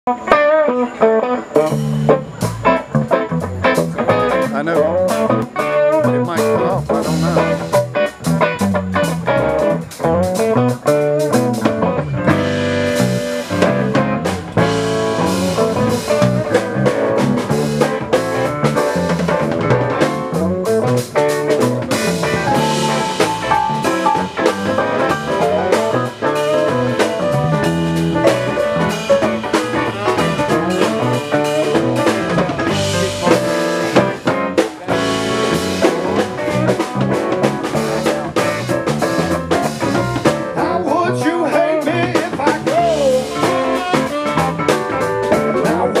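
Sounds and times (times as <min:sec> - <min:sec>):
band playing a song: 0:00.1 - 0:46.0
drum kit hitting: 0:01.6 - 0:40.8, 0:42.0 - 0:46.0.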